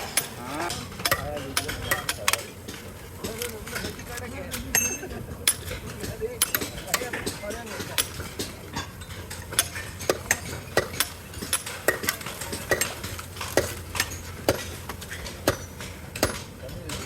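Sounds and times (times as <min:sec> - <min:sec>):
hard objects clinking and knocking: 0:00.0 - 0:17.0.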